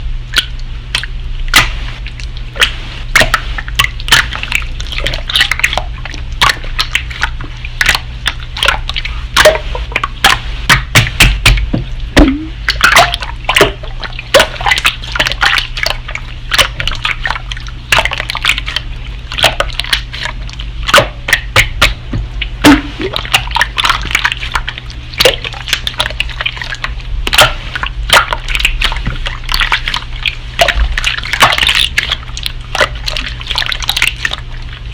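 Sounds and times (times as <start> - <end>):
slime squelching and popping: 0.3 - 34.9.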